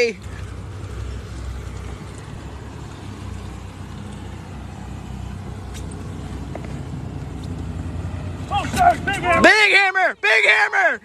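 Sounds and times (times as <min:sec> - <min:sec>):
boat engine humming: 0:00.0 - 0:11.0
wind: 0:00.0 - 0:11.0.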